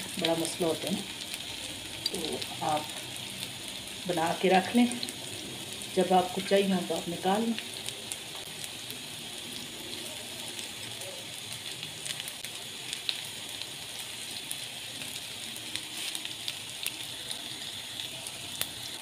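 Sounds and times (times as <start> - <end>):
meat sizzling in oil: 0.0 - 19.0.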